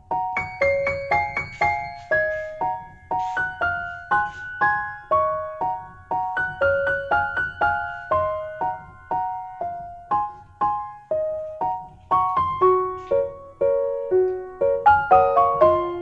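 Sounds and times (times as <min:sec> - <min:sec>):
gentle slow piano melody: 0:00.0 - 0:16.0.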